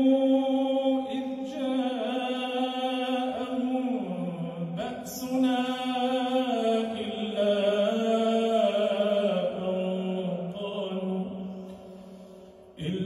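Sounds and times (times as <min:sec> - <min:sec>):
man chanting melodically: 0:00.0 - 0:11.6, 0:12.8 - 0:13.0.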